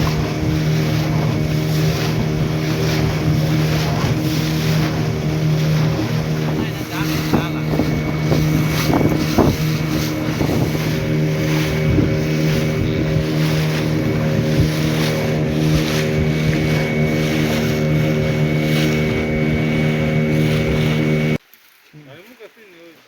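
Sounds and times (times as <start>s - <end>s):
motorboat engine running: 0.0s - 21.4s
water splashing along hull: 0.0s - 21.5s
wind: 0.0s - 23.0s.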